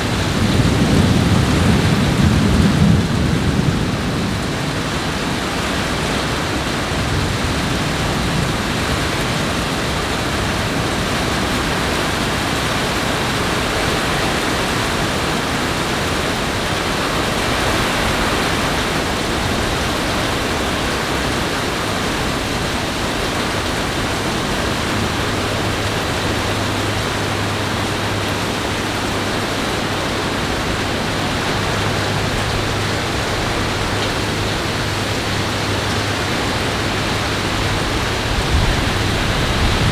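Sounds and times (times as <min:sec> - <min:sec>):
heavy rain rushing: 0:00.0 - 0:39.9.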